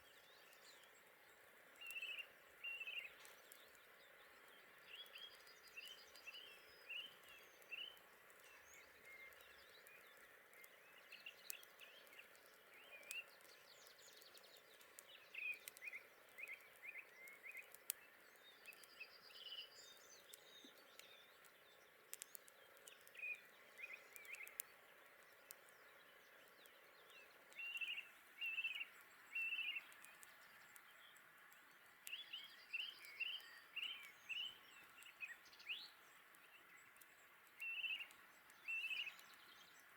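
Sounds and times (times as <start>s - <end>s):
faint outdoor hiss: 0.0s - 39.9s
songbird chirping: 0.0s - 39.9s.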